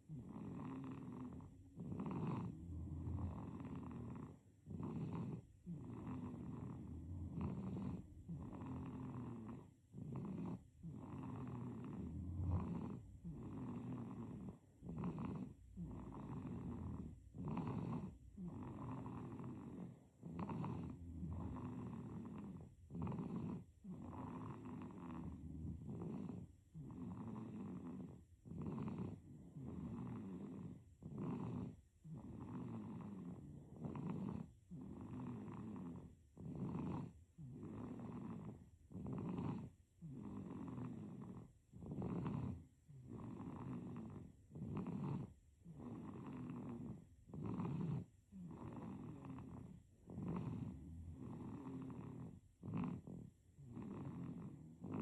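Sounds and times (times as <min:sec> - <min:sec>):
baby snoring: 0:00.0 - 0:55.0.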